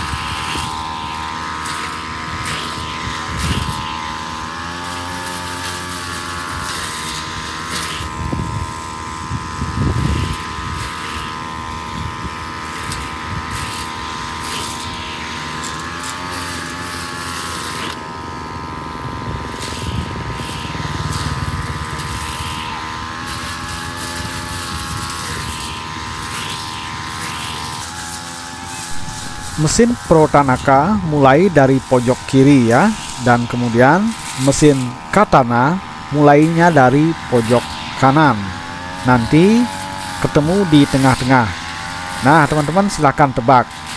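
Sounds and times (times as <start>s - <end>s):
brush cutter whining: 0.0s - 43.9s.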